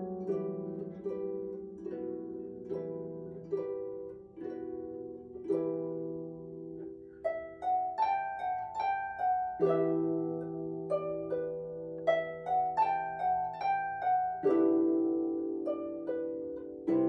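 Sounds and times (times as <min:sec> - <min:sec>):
harp playing: 0:00.0 - 0:17.0.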